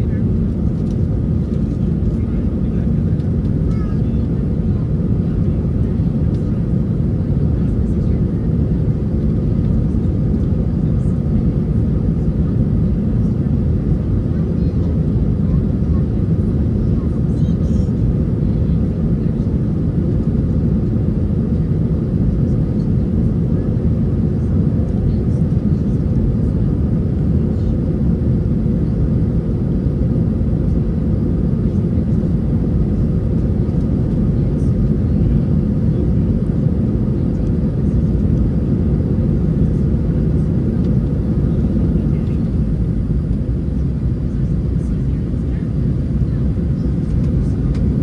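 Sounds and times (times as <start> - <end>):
jet engine cabin rumble: 0.0 - 48.0.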